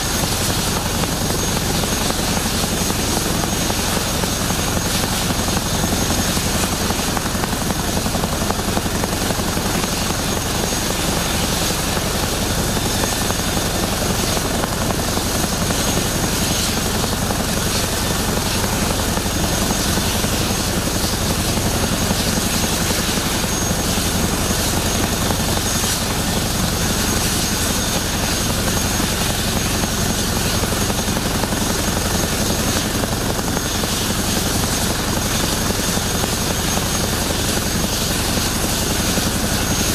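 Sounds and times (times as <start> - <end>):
helicopter rotor beat: 0.0 - 39.9
high turbine whine: 0.0 - 39.9.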